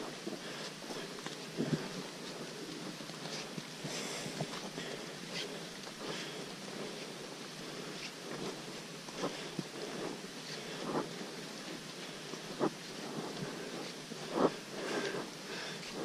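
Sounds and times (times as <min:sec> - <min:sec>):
footsteps on muddy trail: 0:00.0 - 0:16.0
steady background hiss: 0:00.0 - 0:16.0.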